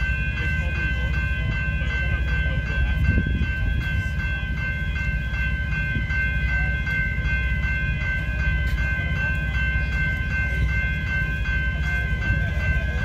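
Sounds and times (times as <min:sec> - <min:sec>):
level crossing bell ringing: 0:00.0 - 0:13.0.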